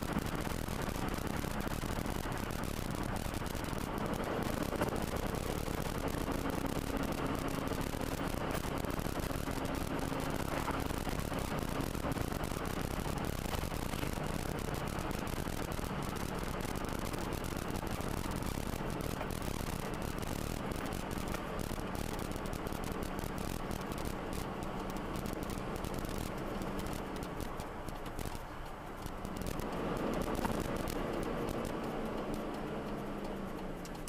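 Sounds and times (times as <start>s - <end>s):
car cabin road and engine noise: 0.0s - 34.0s.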